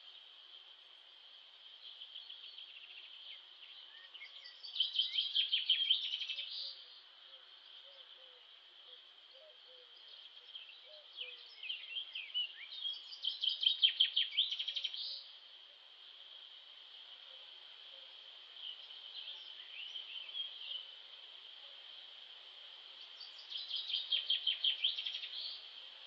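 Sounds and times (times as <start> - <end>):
songbird twittering and trilling: 0.0 - 26.0.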